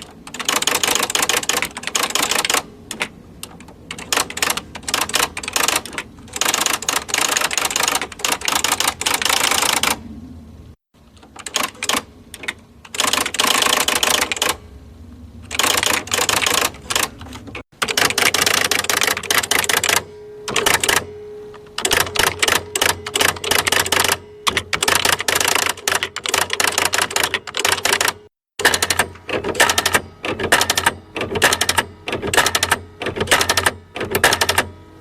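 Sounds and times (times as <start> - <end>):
electric typewriter key strikes: 0.0 - 10.0, 11.2 - 14.6, 15.5 - 21.1, 21.7 - 34.7
steady hum: 0.0 - 11.1, 12.0 - 35.0.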